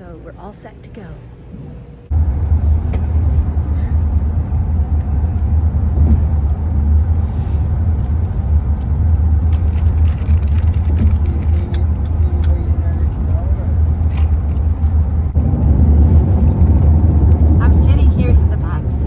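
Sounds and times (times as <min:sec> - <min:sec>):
road rumble inside van: 0:01.3 - 0:19.0.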